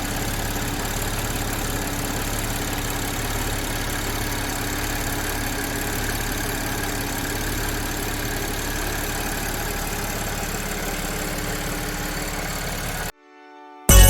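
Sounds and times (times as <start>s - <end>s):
car engine idling: 0.0s - 13.1s.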